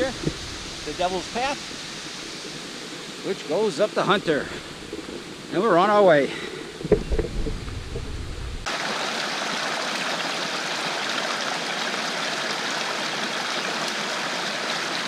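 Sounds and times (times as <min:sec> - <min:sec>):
stream rushing: 0:00.0 - 0:06.6, 0:08.6 - 0:15.0.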